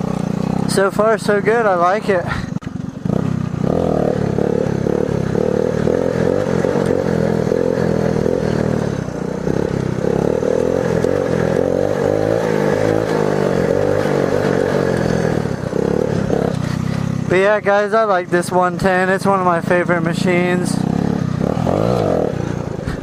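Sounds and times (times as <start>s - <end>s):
small engine revving: 0.0s - 23.0s.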